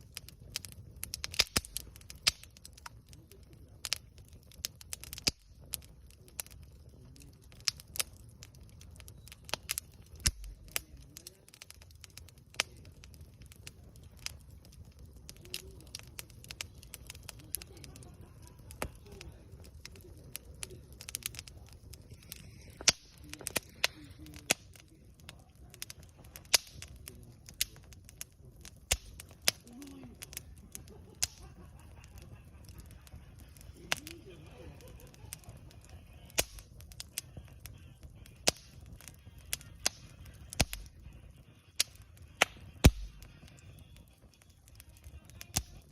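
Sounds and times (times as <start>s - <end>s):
campfire crackling and popping: 0.0s - 45.9s
low rumble of burning fire: 0.0s - 45.9s.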